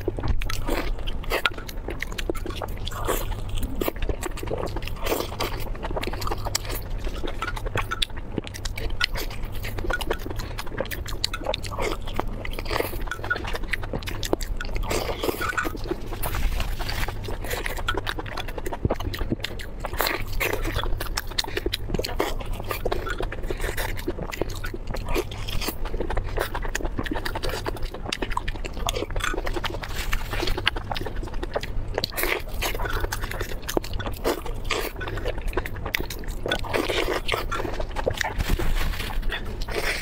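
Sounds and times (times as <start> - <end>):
chewing and mouth smacking: 0.0 - 40.0
steady low hum: 0.0 - 40.0.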